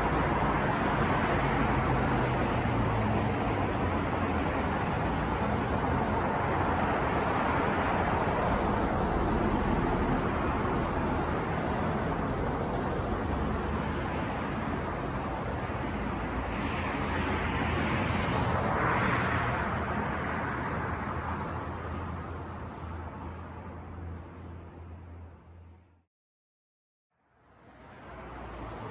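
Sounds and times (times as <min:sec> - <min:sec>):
cars passing: 0:00.0 - 0:25.8, 0:27.3 - 0:28.9
low traffic hum: 0:00.0 - 0:26.0, 0:27.2 - 0:28.9.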